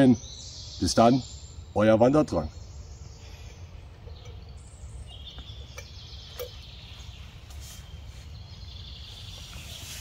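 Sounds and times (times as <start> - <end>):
bird singing chirping trill: 0.0 - 10.0.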